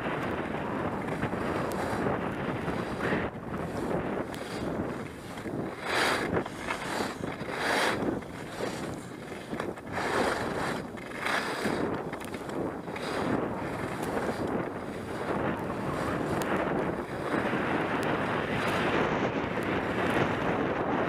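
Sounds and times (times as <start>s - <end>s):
skis scraping over snow: 0.0s - 21.0s
wind rushing over microphone: 0.0s - 21.0s.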